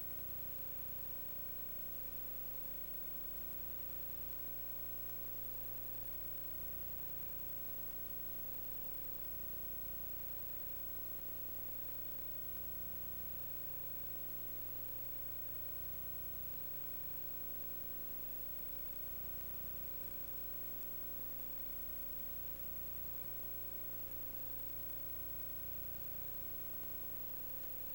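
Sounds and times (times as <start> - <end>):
faint electrical hum: 0.0 - 27.9.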